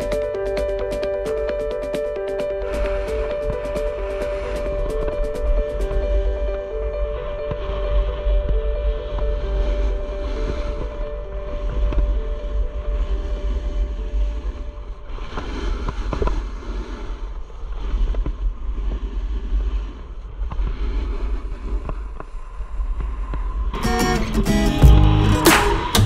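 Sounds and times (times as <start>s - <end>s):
wind buffeting microphone: 0.0s - 23.8s
skis carving across snow: 2.3s - 23.7s.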